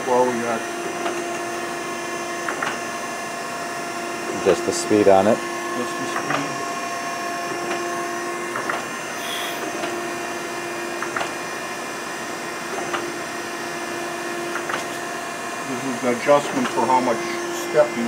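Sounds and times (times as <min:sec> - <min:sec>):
hydraulic grinder hum: 0:00.0 - 0:18.0.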